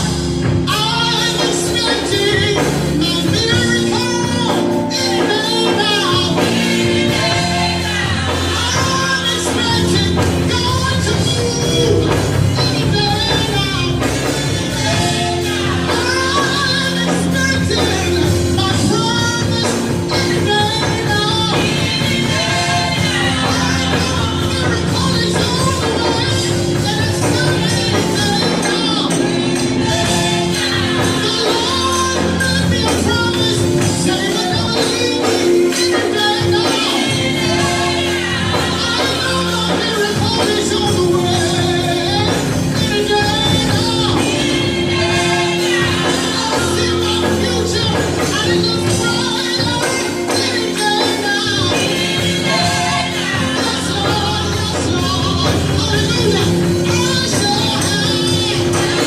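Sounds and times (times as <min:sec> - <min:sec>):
gospel choir singing: 0:00.0 - 0:59.0
live band playing: 0:00.0 - 0:59.0.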